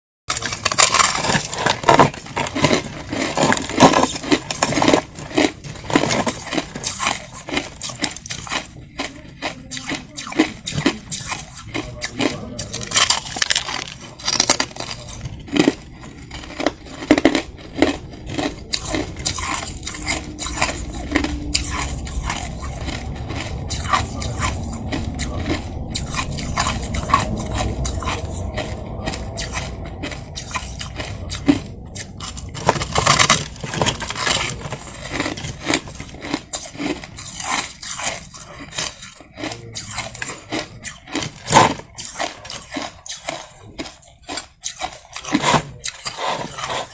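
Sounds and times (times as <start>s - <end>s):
crushed ice crunching: 0.3s - 8.7s, 9.4s - 46.9s.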